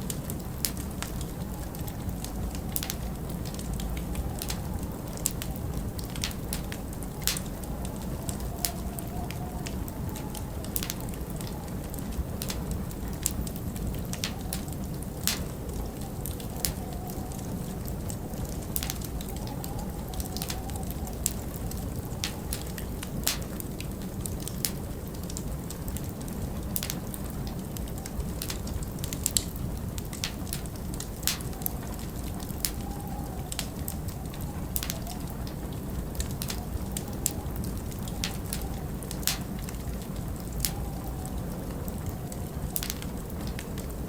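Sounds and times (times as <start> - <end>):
storm wind howling: 0.0 - 44.0
wood fire crackling and popping: 0.0 - 44.0.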